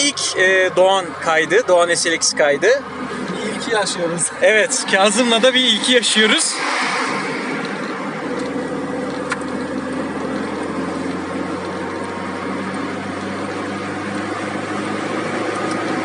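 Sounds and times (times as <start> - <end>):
car engine running steadily: 0.0 - 16.0
road noise: 0.0 - 16.0.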